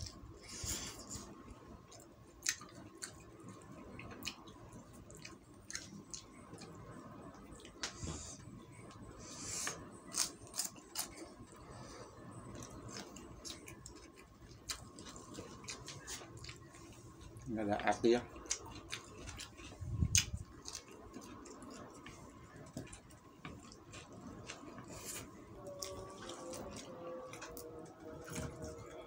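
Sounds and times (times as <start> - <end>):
man chewing with mouth smacks: 0.0 - 11.7, 12.5 - 17.5, 18.4 - 27.6.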